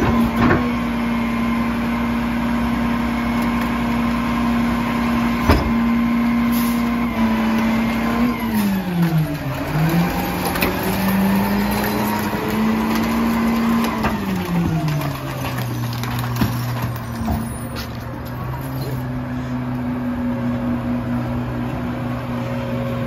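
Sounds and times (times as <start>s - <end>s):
garbage truck engine running: 0.0s - 23.0s.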